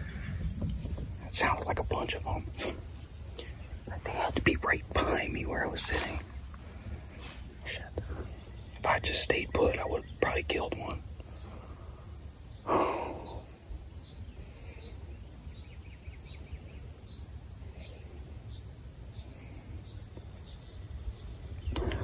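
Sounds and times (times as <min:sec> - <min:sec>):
faint chirp: 0:00.0 - 0:22.0
insects droning: 0:00.0 - 0:22.0.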